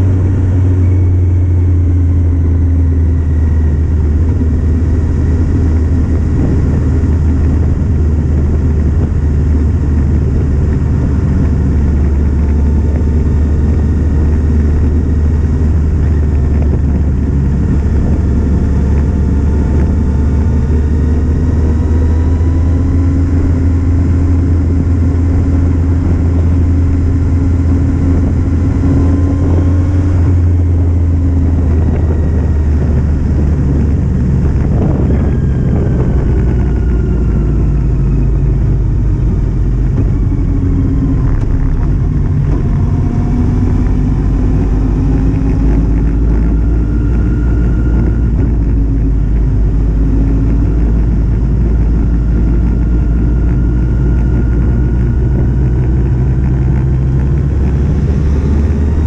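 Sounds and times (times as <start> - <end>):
motorcycle engine revving: 0.0 - 59.0
wind rumble on microphone: 0.0 - 59.0.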